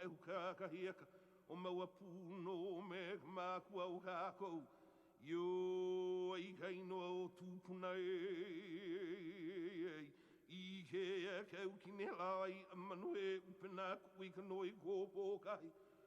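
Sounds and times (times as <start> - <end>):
man singing with vibrato: 0.0 - 15.8.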